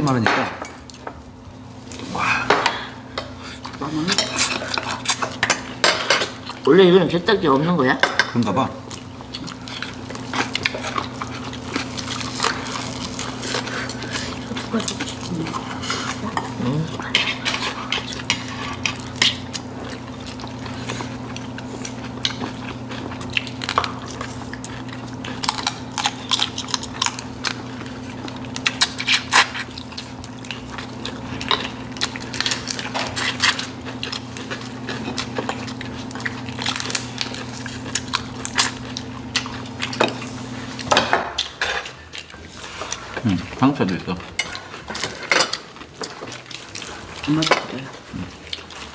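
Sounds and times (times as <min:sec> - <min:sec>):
wet smacking eating noises: 0:08.9 - 0:48.9.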